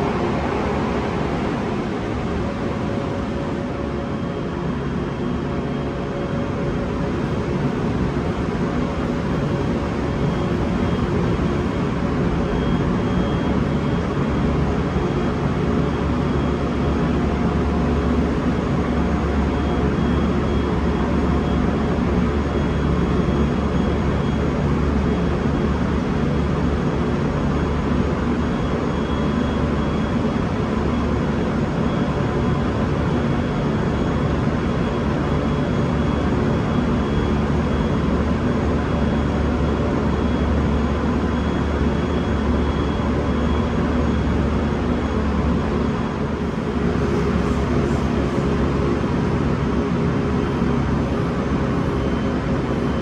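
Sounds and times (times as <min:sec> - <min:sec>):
faint whining tones: 0:00.0 - 0:53.0
train low rumble and hum: 0:00.0 - 0:53.0.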